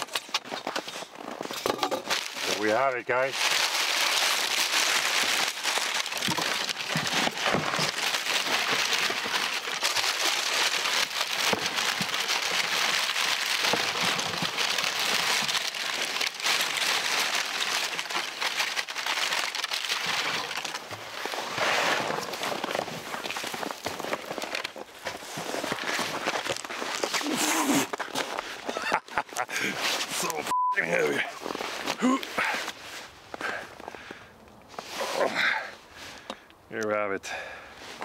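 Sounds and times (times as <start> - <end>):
paper packing rustling and crinkling: 0.0 - 34.1.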